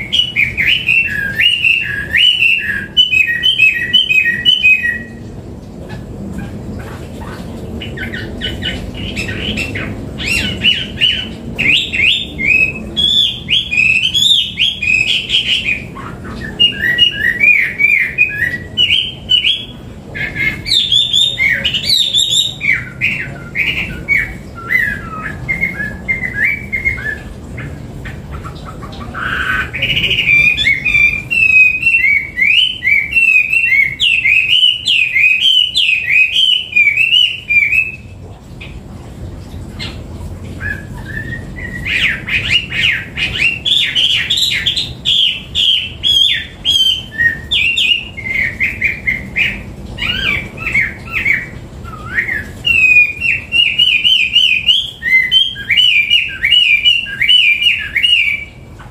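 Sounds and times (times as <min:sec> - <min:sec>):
bird singing whistled phrases: 0:00.0 - 0:05.2, 0:08.0 - 0:27.3, 0:29.2 - 0:38.1, 0:40.6 - 0:58.6.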